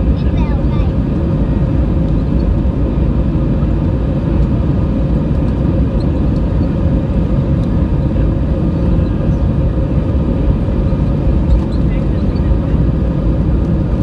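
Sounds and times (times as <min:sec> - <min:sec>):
aircraft engine rumble: 0:00.0 - 0:14.0
steady tonal hum: 0:00.0 - 0:14.0.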